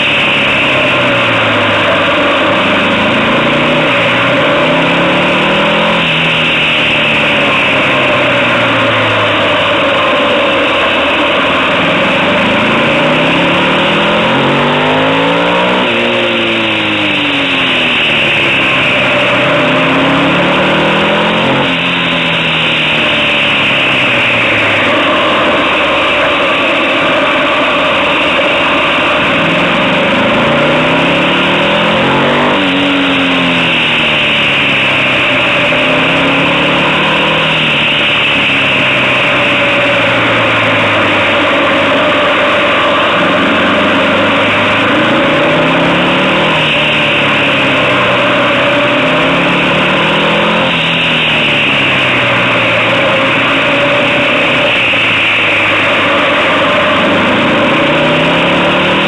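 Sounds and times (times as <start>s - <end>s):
motorcycle engine revving: 0.0s - 59.0s
wind and road noise: 0.0s - 59.0s.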